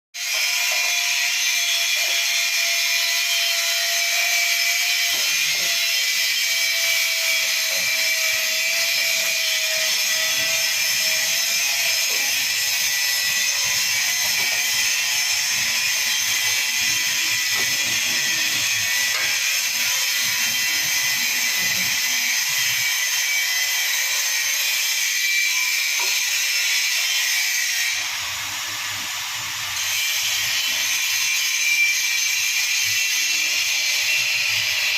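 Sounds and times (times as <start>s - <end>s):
power tool high-pitched whine: 0.2s - 34.9s.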